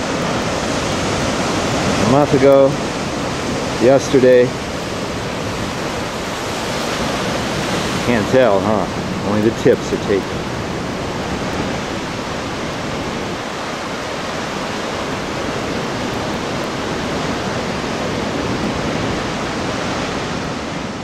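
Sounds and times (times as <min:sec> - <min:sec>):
ocean surf among rocks: 0:00.0 - 0:21.0.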